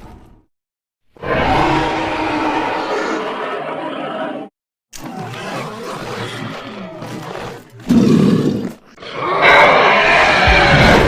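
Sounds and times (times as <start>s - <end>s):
monster growling and roaring: 1.2s - 11.0s.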